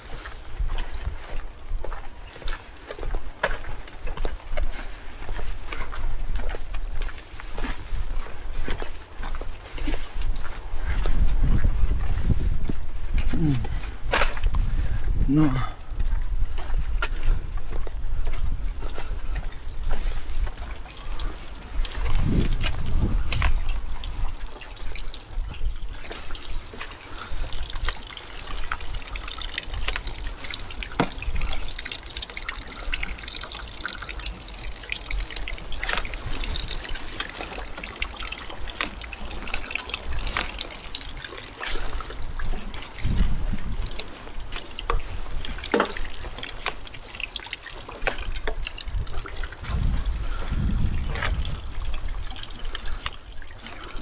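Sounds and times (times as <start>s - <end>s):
wind buffeting microphone: 0.0s - 31.9s, 34.2s - 47.1s, 48.2s - 54.0s
water trickling and dripping: 0.0s - 54.0s.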